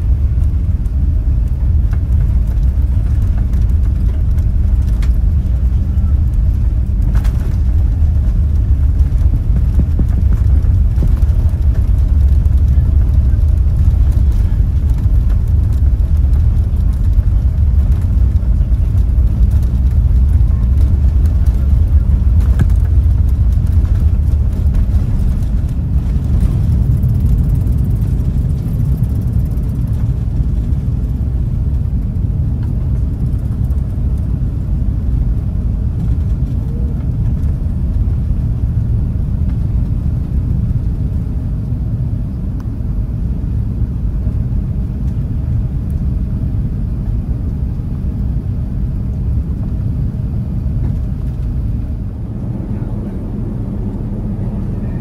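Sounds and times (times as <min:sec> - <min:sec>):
jet engines rumbling at takeoff: 0:00.0 - 0:55.0.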